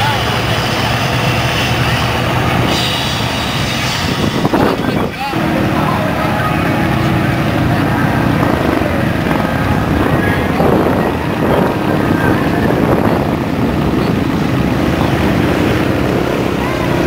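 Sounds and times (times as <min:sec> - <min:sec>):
diesel truck engine revving hard: 0:00.0 - 0:17.0.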